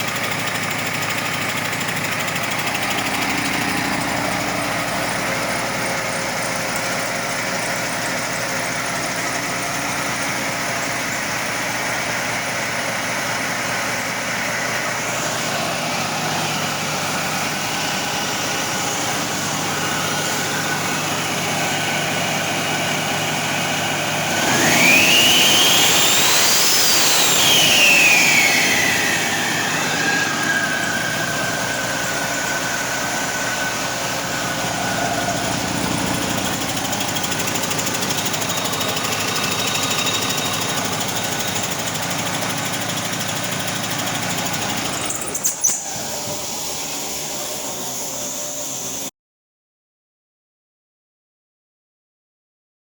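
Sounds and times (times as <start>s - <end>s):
diesel engine idling and revving: 0.0s - 49.1s
engine whine: 0.0s - 49.1s.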